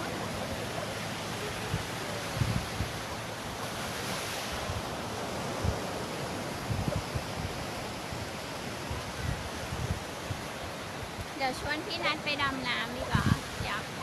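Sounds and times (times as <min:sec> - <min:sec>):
sea waves washing onto beach: 0:00.0 - 0:14.0
wind buffeting microphone: 0:00.0 - 0:14.0.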